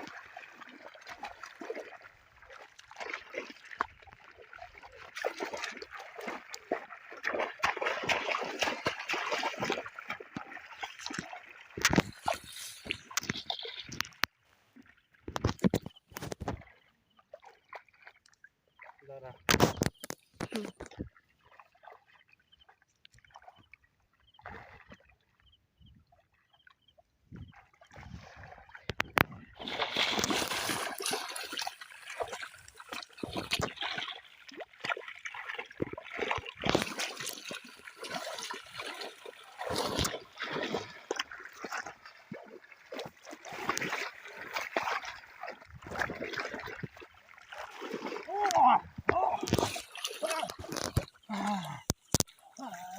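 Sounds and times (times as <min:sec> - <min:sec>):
water splashing by hand: 0:00.0 - 0:25.2, 0:27.3 - 0:52.9.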